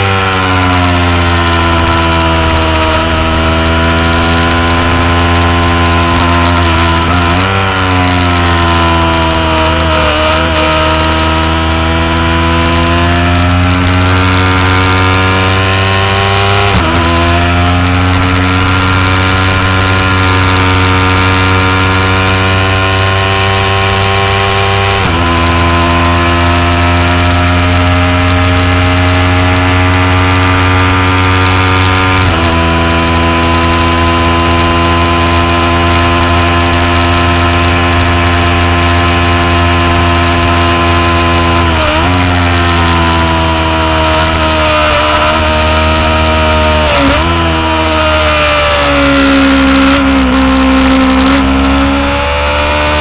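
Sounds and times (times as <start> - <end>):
motorcycle engine at high revs: 0.0 - 53.0.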